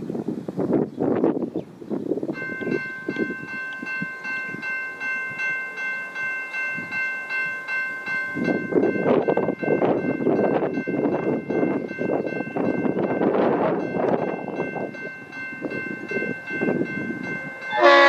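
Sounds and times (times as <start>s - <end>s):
wind buffeting microphone: 0.0s - 5.6s, 6.2s - 18.0s.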